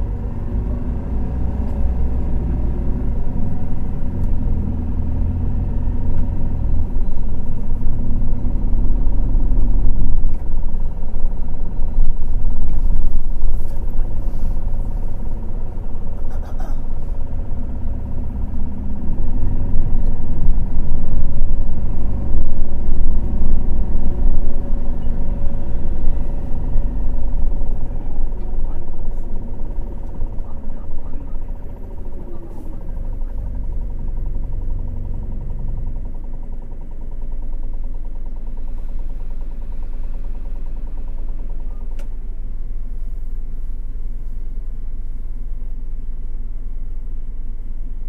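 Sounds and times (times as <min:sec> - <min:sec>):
bus engine rumble with whine: 0:00.0 - 0:48.0.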